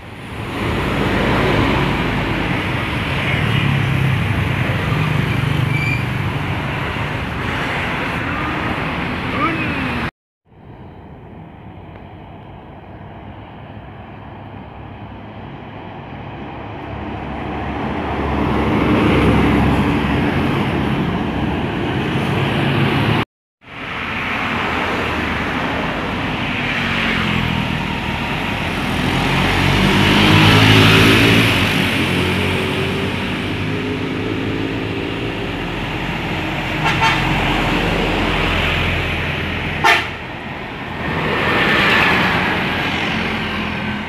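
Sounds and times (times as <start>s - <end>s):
buses passing: 0.0s - 44.0s.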